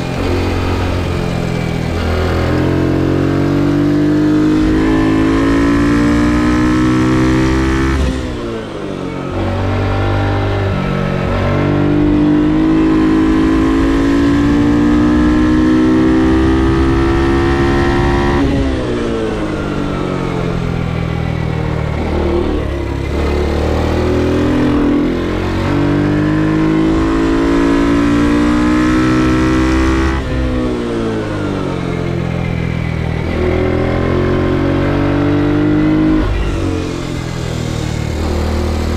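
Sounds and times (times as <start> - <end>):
motorcycle engine revving hard: 0.0 - 38.9.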